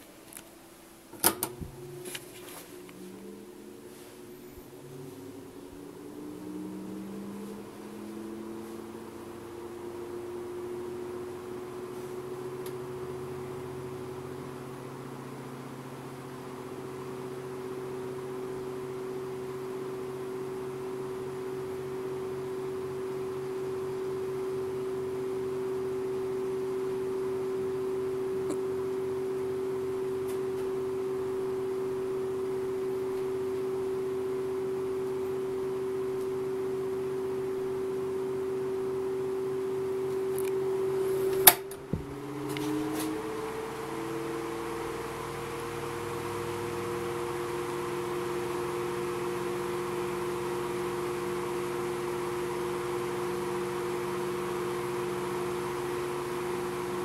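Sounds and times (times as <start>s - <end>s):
table fan motor hum: 0.0s - 57.0s.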